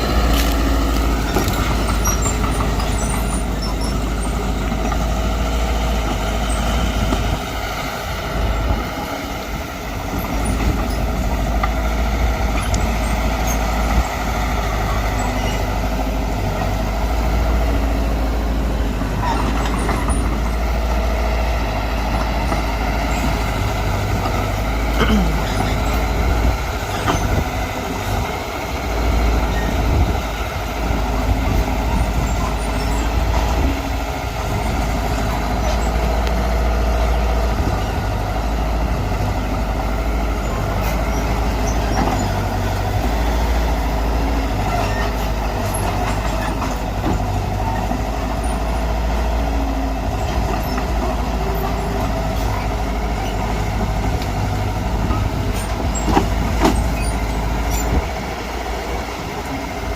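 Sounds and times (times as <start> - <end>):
bulldozer diesel engine rumbling: 0.0 - 59.9.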